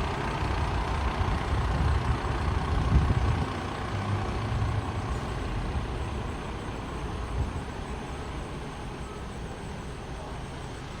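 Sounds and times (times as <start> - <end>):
diesel engine low rumble: 0.0 - 11.0.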